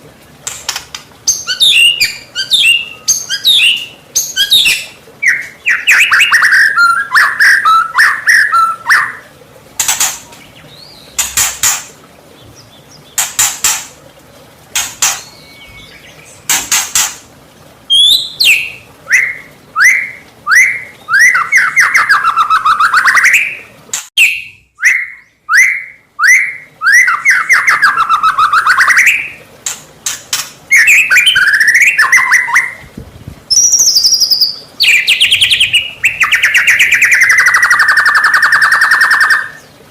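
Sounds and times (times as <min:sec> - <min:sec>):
bird song: 0:01.3 - 0:09.3, 0:10.0 - 0:13.4, 0:14.8 - 0:17.1, 0:17.9 - 0:29.4, 0:30.7 - 0:32.8, 0:33.5 - 0:39.8.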